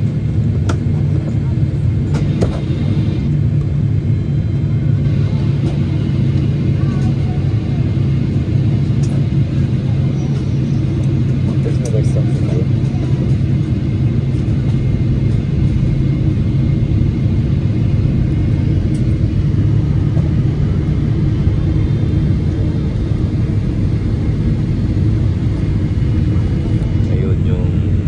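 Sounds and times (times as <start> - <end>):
jet engine rumble and rushing air: 0.0 - 28.0.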